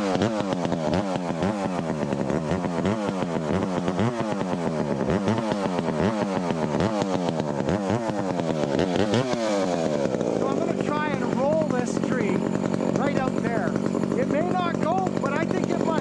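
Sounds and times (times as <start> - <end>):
chainsaw cutting: 0.0 - 16.0.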